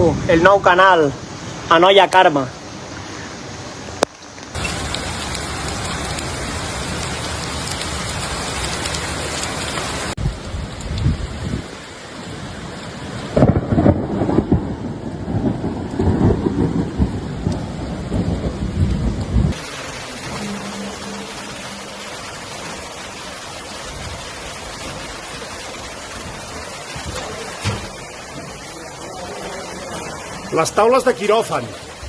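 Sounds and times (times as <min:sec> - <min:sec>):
heavy rain hissing: 0:00.0 - 0:32.0.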